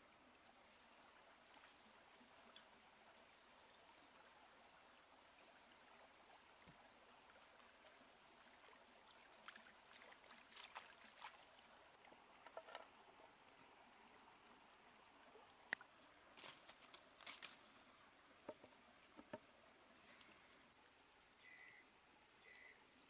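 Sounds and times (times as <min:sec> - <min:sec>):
stream trickling: 0:00.0 - 0:23.0.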